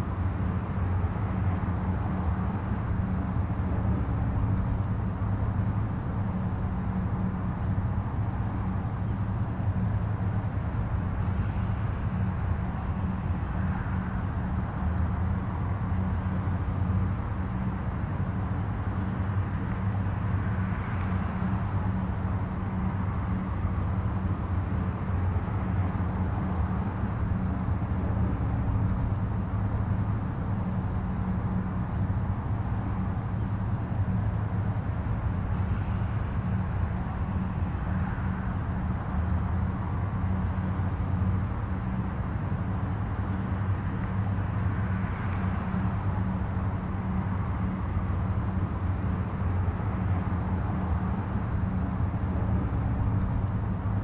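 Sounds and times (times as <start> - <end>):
distant highway traffic rumble: 0.0 - 54.0.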